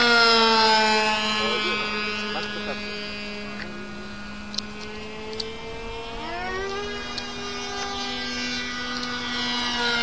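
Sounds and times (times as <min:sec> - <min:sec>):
model airplane engine at high revs: 0:00.0 - 0:10.0
steady low hum: 0:00.0 - 0:10.0.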